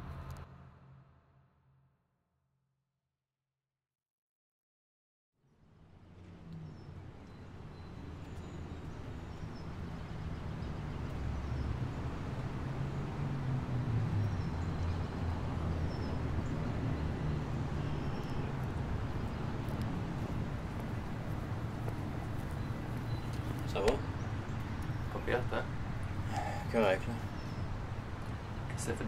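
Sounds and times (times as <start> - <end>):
traffic rumble: 5.7 - 29.0.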